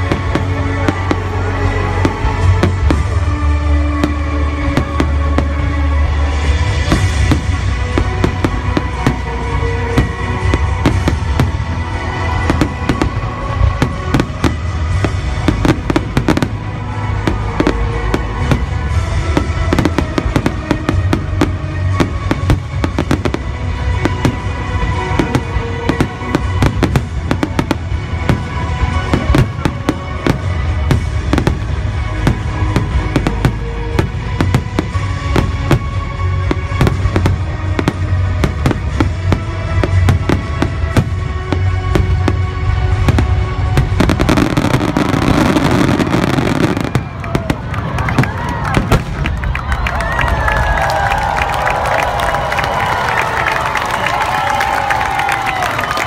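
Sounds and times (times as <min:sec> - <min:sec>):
fireworks bursting: 0:00.0 - 0:50.0
music playing: 0:00.0 - 0:56.0.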